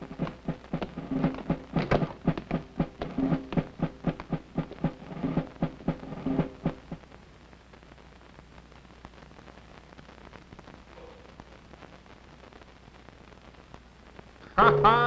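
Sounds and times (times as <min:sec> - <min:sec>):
film soundtrack hiss and crackle: 0:00.0 - 0:15.0
steady low hum: 0:00.0 - 0:15.0.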